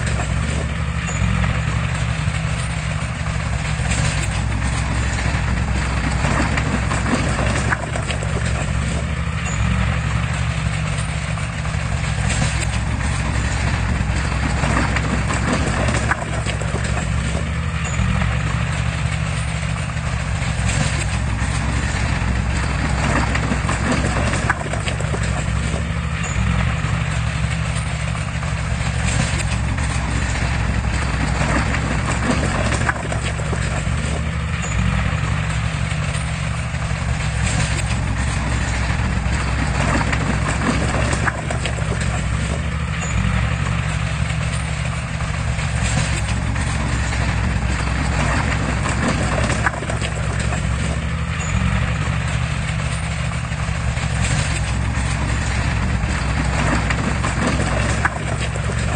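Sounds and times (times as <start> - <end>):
clattering clanks: 0.0 - 58.9
heavy diesel engine drone: 0.0 - 58.9.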